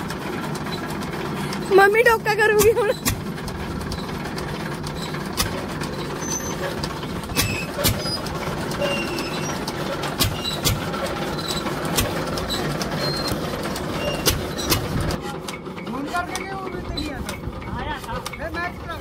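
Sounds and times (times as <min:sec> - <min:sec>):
chaff cutter chopping fodder: 0:00.0 - 0:19.0
stationary engine drone: 0:00.0 - 0:19.0
sharp knocks and clicks: 0:02.6 - 0:18.5.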